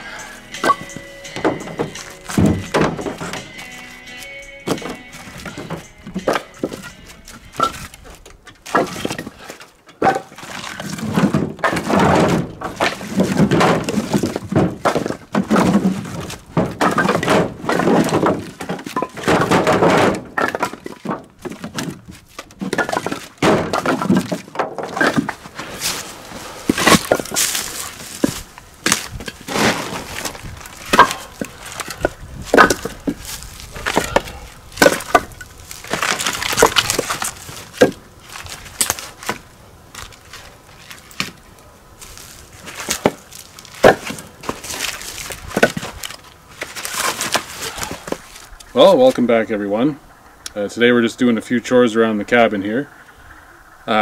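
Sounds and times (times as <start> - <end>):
wood knocking and clattering: 0.6 - 26.0, 26.7 - 41.4, 42.0 - 48.7.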